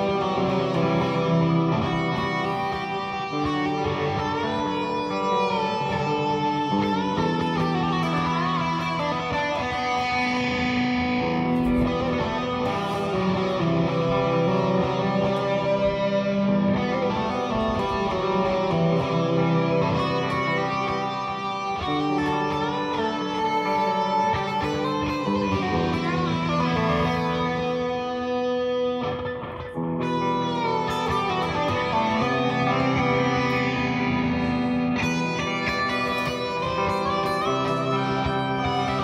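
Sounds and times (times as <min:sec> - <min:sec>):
electric guitar bent notes: 0:00.0 - 0:39.0.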